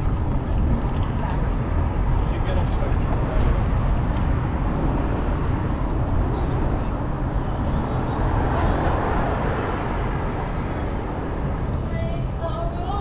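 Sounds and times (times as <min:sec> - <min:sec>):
street traffic noise: 0:00.0 - 0:13.0
wind rumbling on microphone: 0:00.0 - 0:13.0.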